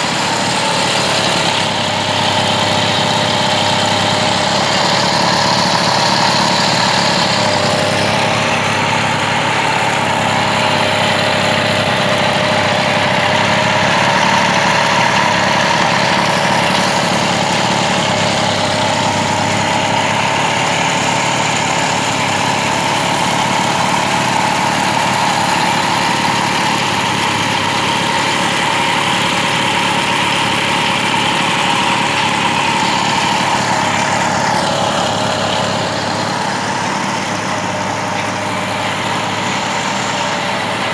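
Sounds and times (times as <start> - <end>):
moped engine idling: 0.0 - 40.9.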